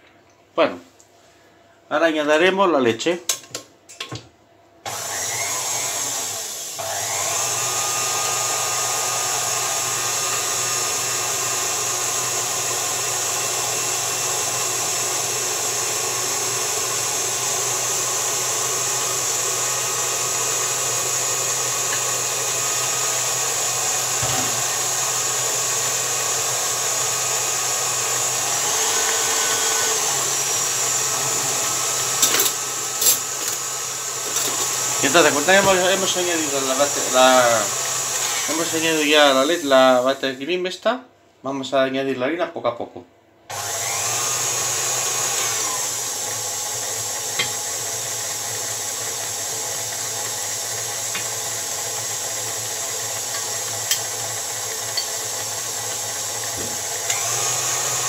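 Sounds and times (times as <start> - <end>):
stand mixer motor running: 4.9 - 40.4, 43.5 - 58.0.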